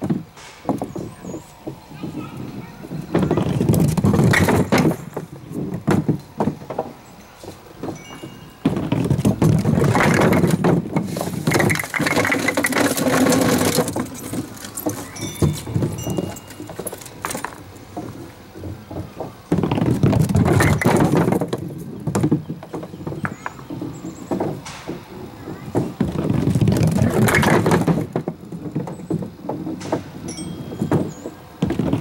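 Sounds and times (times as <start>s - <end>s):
bowling ball striking pins: 0.0s - 7.2s, 7.8s - 32.0s
wooden pins clattering: 0.0s - 32.0s.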